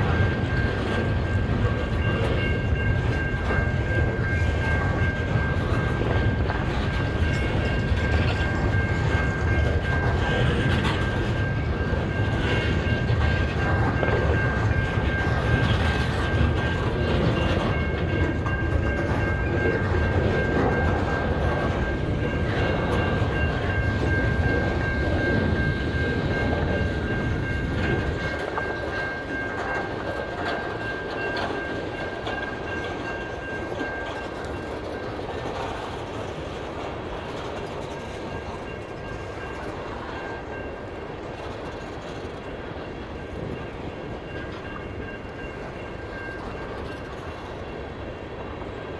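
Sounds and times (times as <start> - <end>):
wheels clicking over rail joints: 0.0 - 47.8
steady high ringing tone: 0.0 - 48.9.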